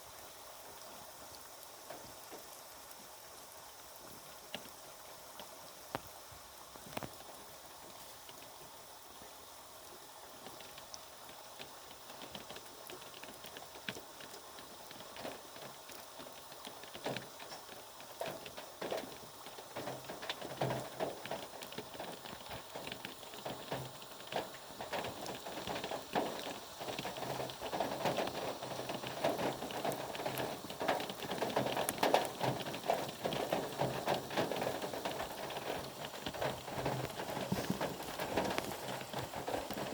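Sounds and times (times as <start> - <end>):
rain drops tapping on a surface: 0.0 - 39.9.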